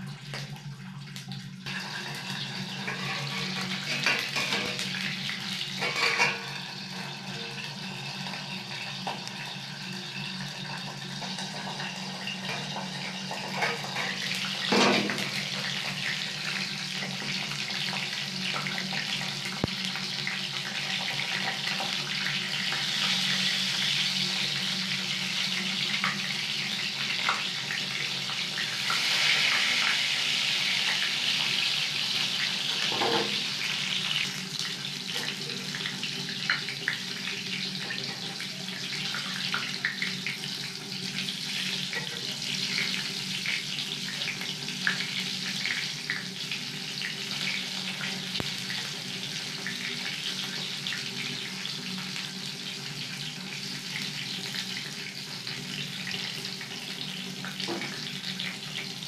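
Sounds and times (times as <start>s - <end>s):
peppers sizzling in oil: 0.0s - 59.0s.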